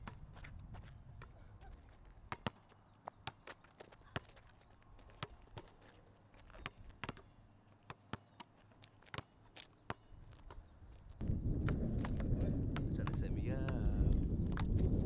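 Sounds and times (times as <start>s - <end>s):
basketball bouncing on asphalt: 0.0s - 14.8s
sneakers on asphalt court: 0.0s - 14.8s.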